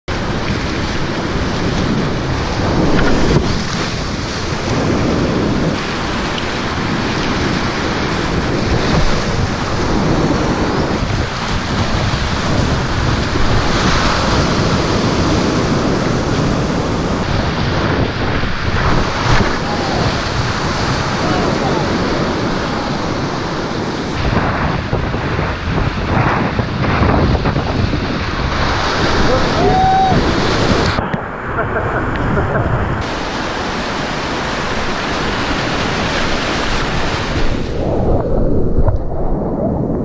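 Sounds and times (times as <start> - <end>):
rapids roaring and splashing: 0.1 - 40.0
wind buffeting microphone: 0.1 - 40.0.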